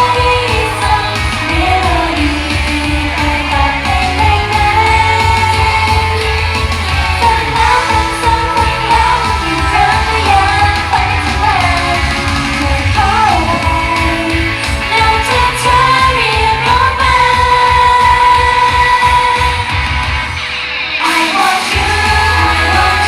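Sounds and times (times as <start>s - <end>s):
woman singing: 0.0s - 20.0s, 21.0s - 23.0s
heavy steady beat: 0.0s - 20.3s, 21.4s - 23.0s
pop song over loudspeakers: 0.0s - 23.0s.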